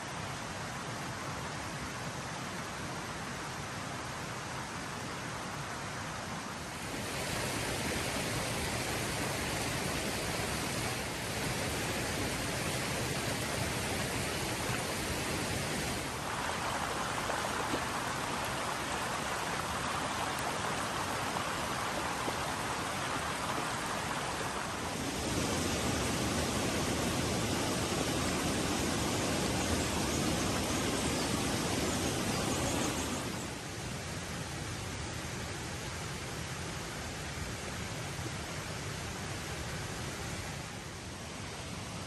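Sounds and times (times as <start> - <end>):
creek water running: 0.0 - 42.0.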